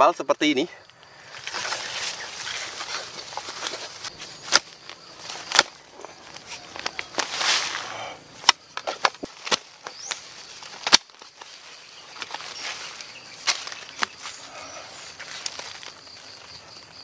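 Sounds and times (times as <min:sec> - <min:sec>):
leaves and soil rustling: 0:00.0 - 0:17.0
roots snapping: 0:00.8 - 0:16.5.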